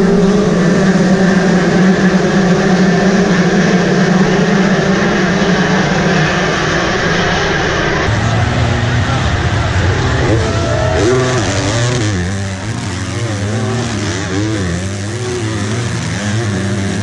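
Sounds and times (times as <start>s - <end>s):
dirt bike engines at high revs: 0.0s - 17.0s.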